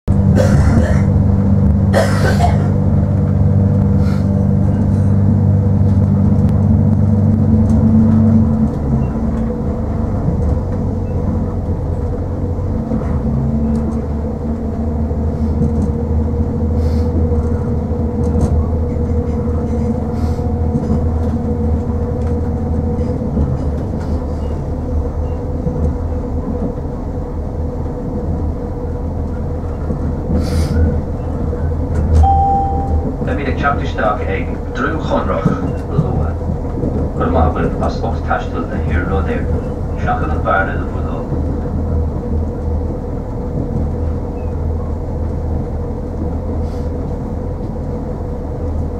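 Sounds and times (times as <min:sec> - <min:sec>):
wheels rumbling on rails: 0:00.0 - 0:48.9
diesel engine drone: 0:00.1 - 0:48.9.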